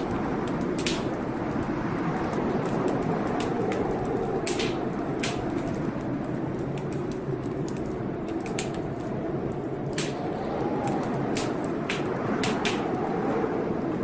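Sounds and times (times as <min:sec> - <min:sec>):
fire crackling and popping: 0:00.0 - 0:14.0
rushing storm noise: 0:00.0 - 0:14.0.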